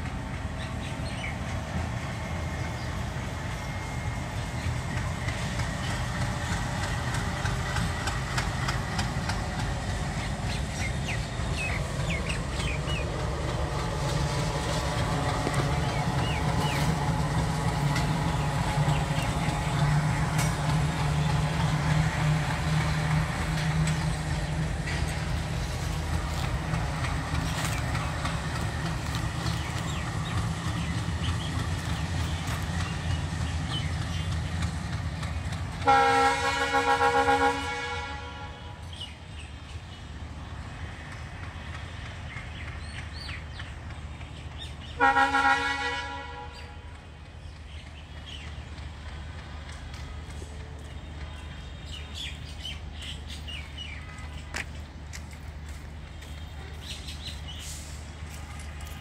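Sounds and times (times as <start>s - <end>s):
locomotive engine drone: 0.0s - 59.0s.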